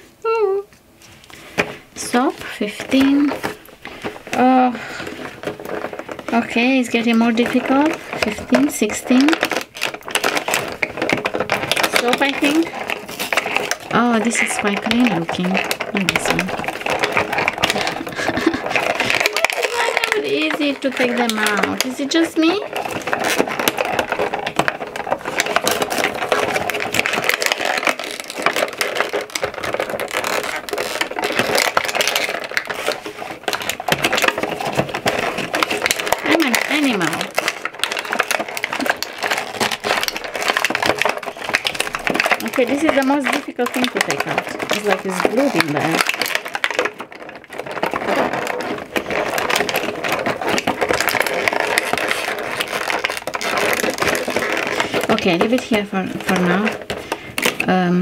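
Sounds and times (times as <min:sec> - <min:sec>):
cardboard crinkling and tearing: 0:01.0 - 0:58.0.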